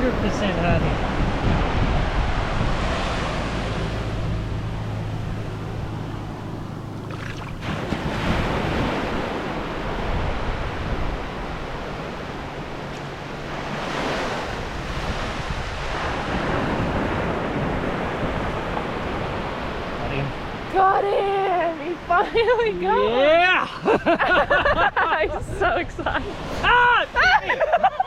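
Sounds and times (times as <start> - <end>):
wind buffeting microphone: 0.0 - 22.9, 23.9 - 28.0
ocean surf washing in: 0.0 - 28.0.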